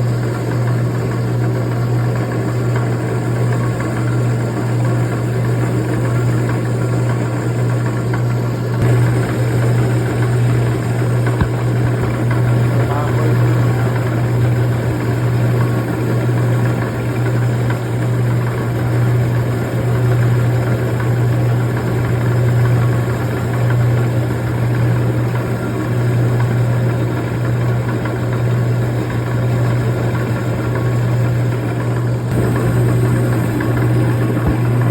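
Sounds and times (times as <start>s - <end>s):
low motor hum: 0.0s - 34.9s.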